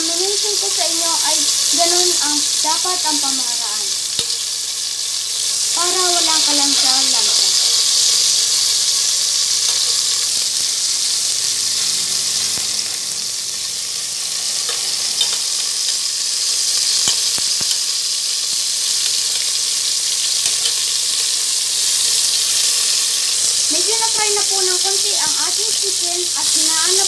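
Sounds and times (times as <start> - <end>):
chicken wings sizzling in oil: 0.0 - 27.0.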